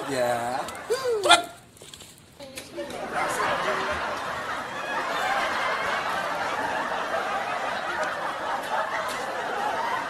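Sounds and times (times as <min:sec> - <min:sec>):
people laughing: 0:00.0 - 0:01.6, 0:02.7 - 0:10.0.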